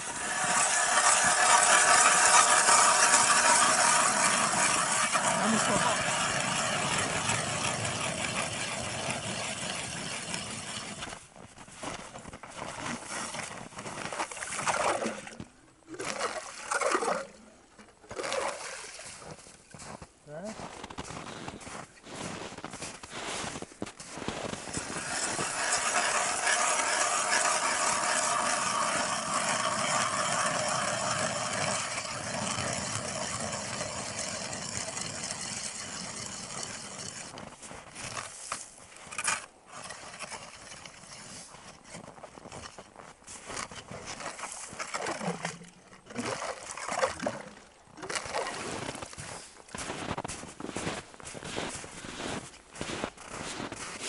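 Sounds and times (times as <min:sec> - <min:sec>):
ice auger grinding through ice: 0:00.0 - 0:17.4, 0:18.1 - 0:54.0.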